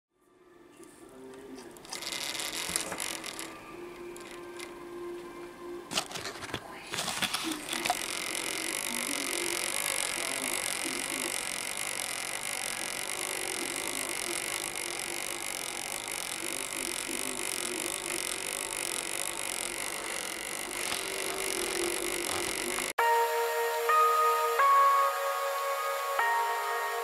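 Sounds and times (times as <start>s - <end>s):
computer fans whirring: 1.1s - 27.0s.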